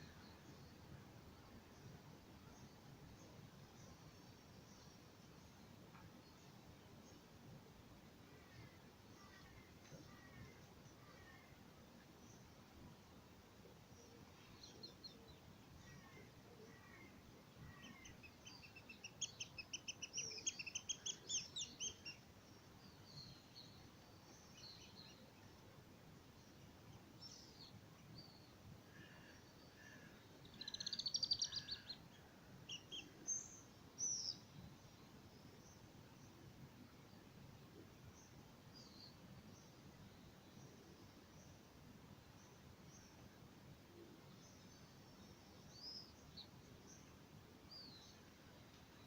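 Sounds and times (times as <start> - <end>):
faint background hiss: 0.0 - 49.0
songbirds singing: 0.0 - 49.0.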